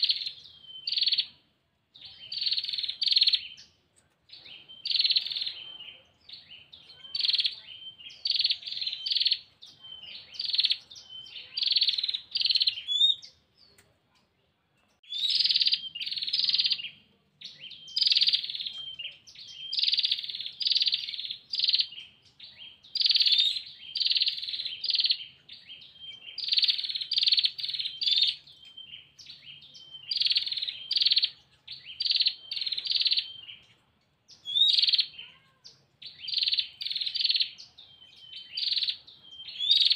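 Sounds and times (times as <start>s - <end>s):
bird trilling call: 0.0s - 1.4s, 2.1s - 3.7s, 4.5s - 5.7s, 6.3s - 13.3s, 15.1s - 22.1s, 22.8s - 33.6s, 34.3s - 35.4s, 36.0s - 39.9s.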